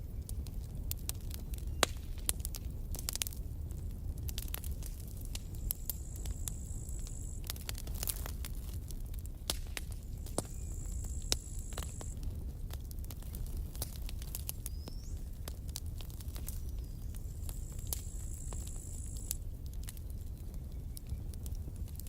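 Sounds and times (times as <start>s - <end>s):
low rumble of flames: 0.0s - 22.0s
wood crackling and popping: 0.0s - 22.0s.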